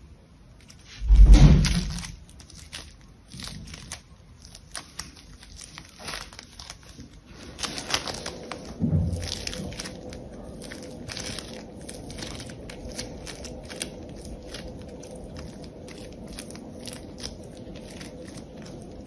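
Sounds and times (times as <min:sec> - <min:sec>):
foam clay crackling: 0:00.4 - 0:19.0.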